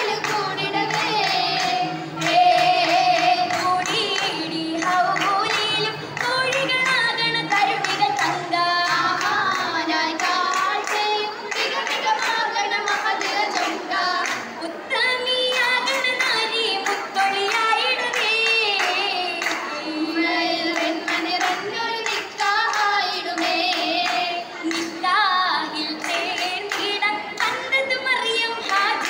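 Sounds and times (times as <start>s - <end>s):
girls singing in unison: 0.0s - 29.0s
rhythmic hand claps: 0.0s - 29.0s.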